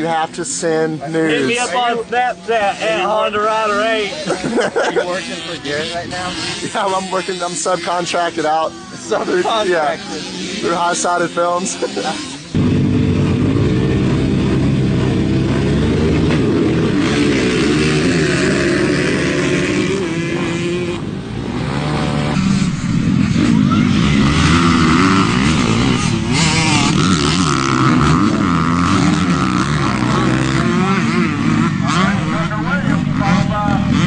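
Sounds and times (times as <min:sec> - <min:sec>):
motocross bike engines revving: 0:00.0 - 0:34.0.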